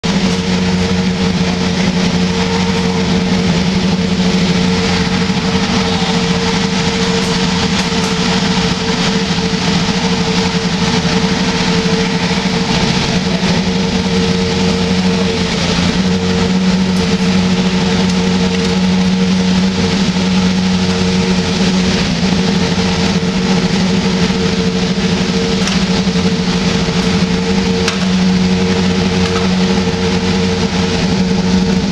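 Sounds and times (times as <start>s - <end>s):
steady mechanical drone: 0.0s - 31.9s.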